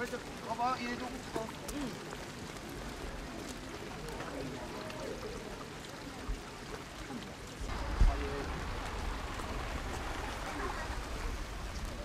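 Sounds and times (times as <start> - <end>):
faint voices talking: 0.0 - 12.0
rain falling: 0.0 - 12.0.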